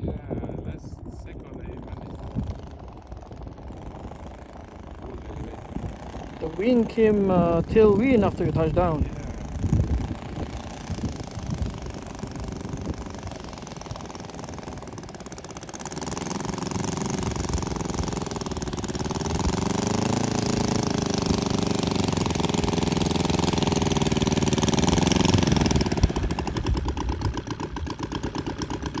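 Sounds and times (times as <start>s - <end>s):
model plane engine at high throttle: 0.0s - 29.0s
model plane engine idling: 0.0s - 29.0s.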